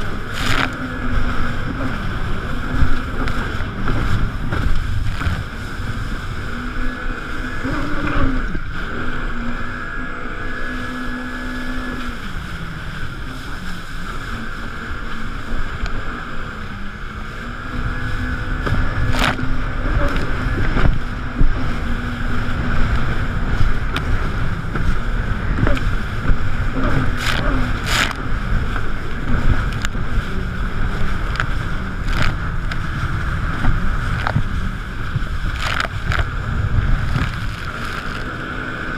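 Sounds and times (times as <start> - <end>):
jet ski engine: 0.0 - 38.9
water rushing against hull: 0.0 - 38.9.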